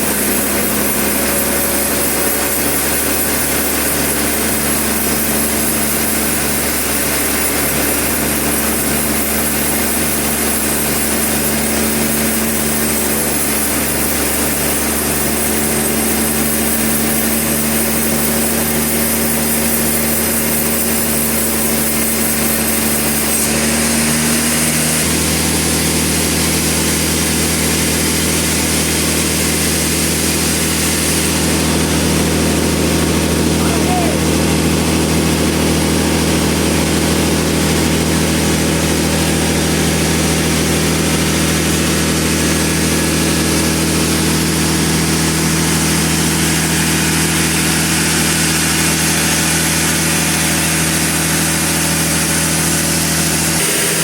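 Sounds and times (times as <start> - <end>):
engine-driven saw drone: 0.0 - 54.0.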